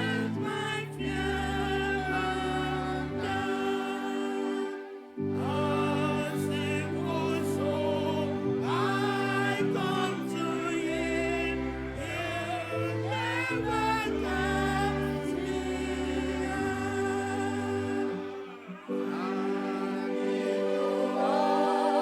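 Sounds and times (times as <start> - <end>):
voices singing with vibrato: 0.0 - 22.0.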